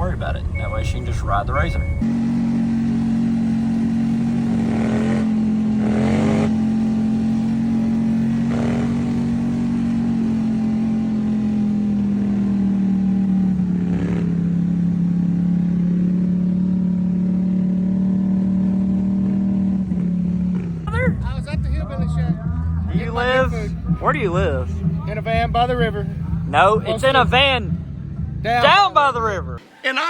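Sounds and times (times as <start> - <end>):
car engine drone from inside: 0.0 - 29.6.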